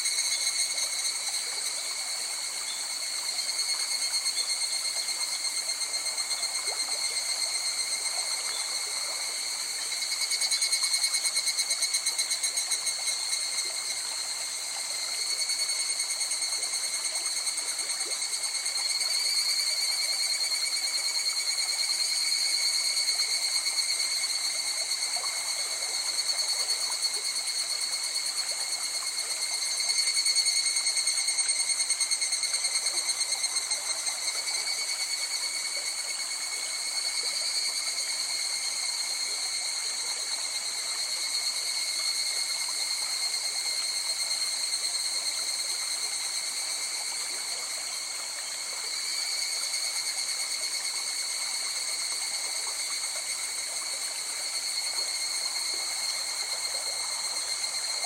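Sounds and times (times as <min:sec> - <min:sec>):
night insects trilling: 0:00.0 - 0:58.0.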